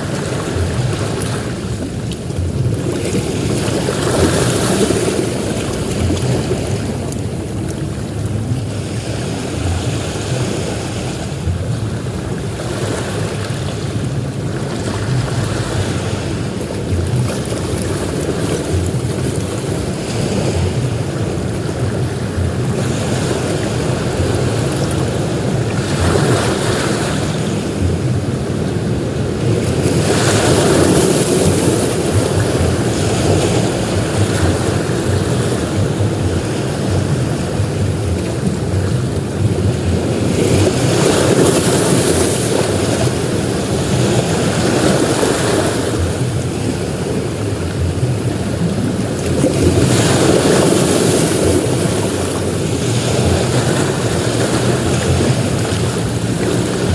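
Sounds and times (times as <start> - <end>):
ocean waves breaking: 0.0 - 56.9
wind rumbling on microphone: 0.0 - 56.9.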